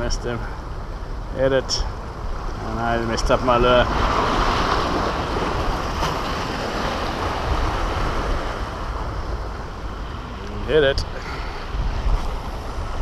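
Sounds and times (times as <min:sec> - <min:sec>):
wind buffeting microphone: 0:00.0 - 0:13.0
sea surf breaking on concrete: 0:02.5 - 0:13.0.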